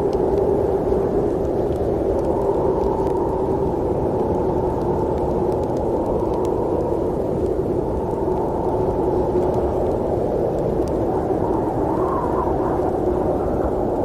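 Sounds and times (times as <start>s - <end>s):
faint clicks: 0.0s - 14.0s
snowstorm wind whooshing: 0.0s - 14.0s.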